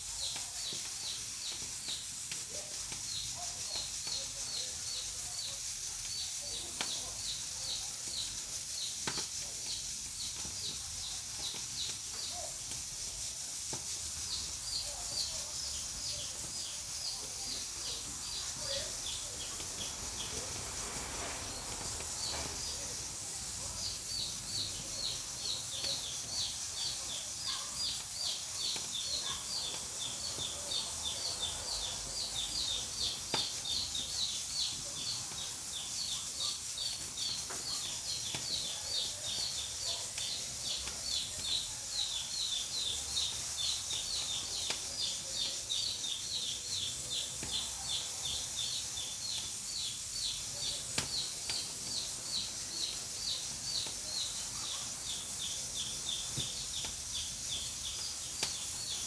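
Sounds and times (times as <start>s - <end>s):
pressure cooker hissing: 0.0s - 59.0s.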